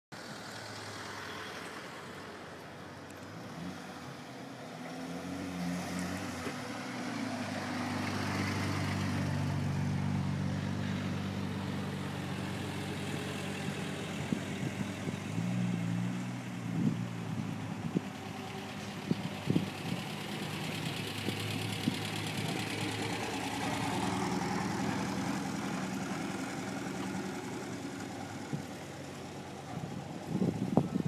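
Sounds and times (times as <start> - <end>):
car engine passing at low speed: 0.2 - 31.0.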